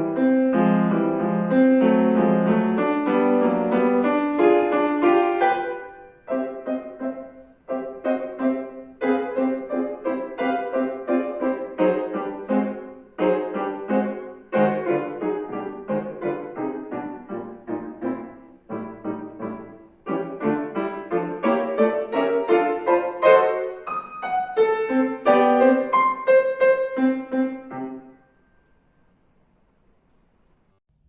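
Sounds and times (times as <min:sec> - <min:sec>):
classical piano piece: 0:00.0 - 0:30.8.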